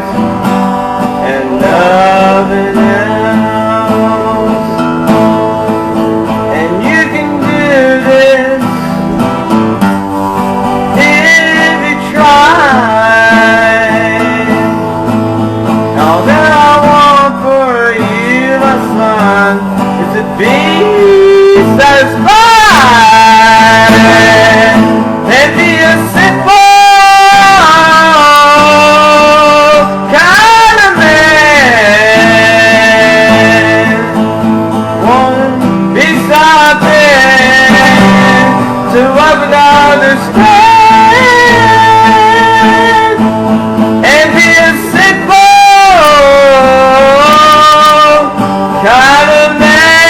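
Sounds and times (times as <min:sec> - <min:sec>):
man singing with vibrato: 0:00.0 - 0:50.0
strummed guitar: 0:00.0 - 0:50.0.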